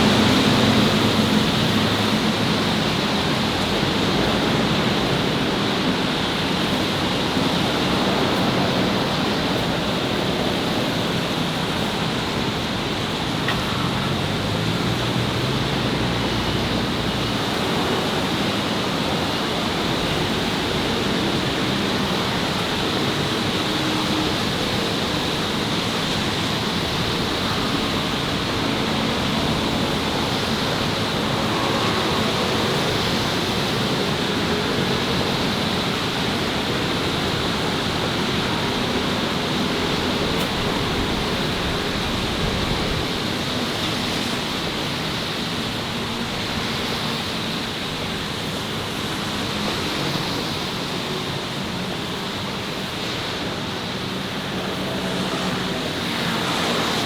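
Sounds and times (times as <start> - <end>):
traffic hiss: 0.0 - 57.0.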